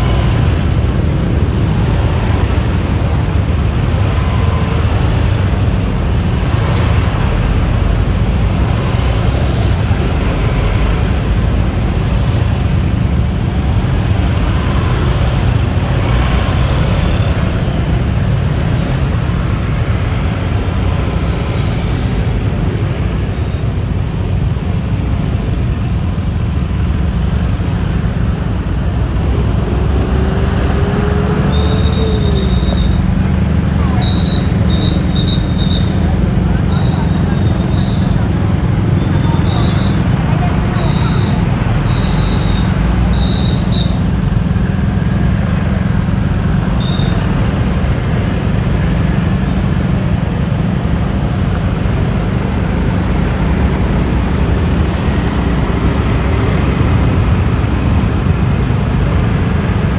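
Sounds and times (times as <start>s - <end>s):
passing vehicle: 0.0s - 59.9s
tyre and traffic noise: 0.0s - 59.9s.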